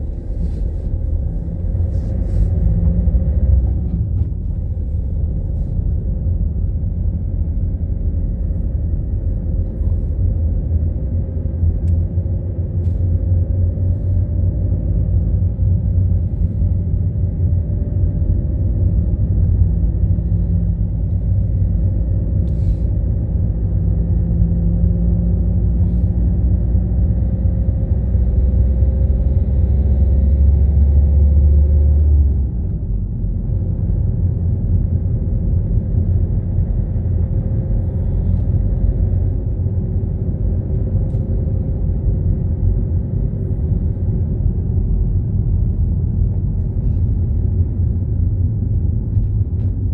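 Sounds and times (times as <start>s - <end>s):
car engine and road rumble: 0.0s - 49.9s
faint engine tones: 0.0s - 49.9s.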